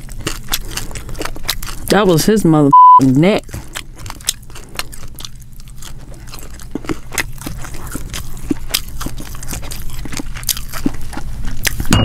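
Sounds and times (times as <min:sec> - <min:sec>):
crunchy chewing: 0:00.0 - 0:11.9
low steady hum: 0:00.0 - 0:12.0.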